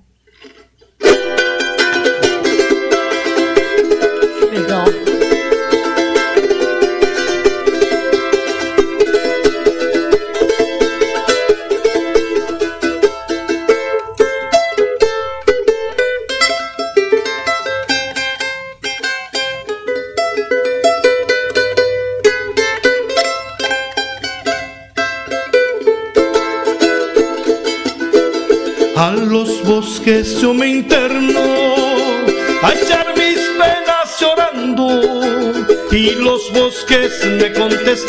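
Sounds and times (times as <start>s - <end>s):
charango strummed fast: 0.3s - 38.0s.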